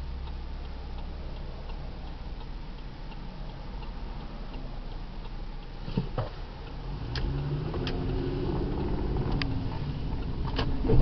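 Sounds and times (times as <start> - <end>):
car engine idling: 0.0 - 11.0
turn signal ticking: 0.0 - 11.0.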